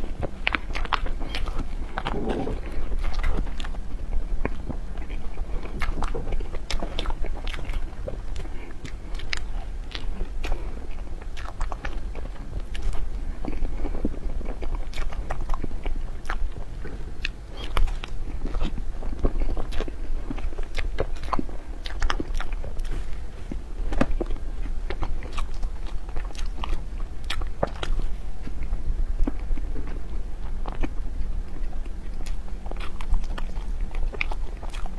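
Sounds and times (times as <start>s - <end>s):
biting and chewing: 0.0s - 34.9s
low hum: 0.0s - 34.9s.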